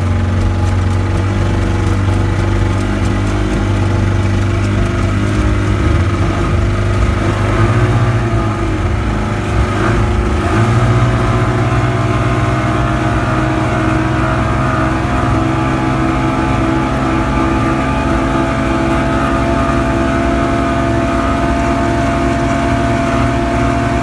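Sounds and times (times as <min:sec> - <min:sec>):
outboard motors droning: 0:00.0 - 0:24.0.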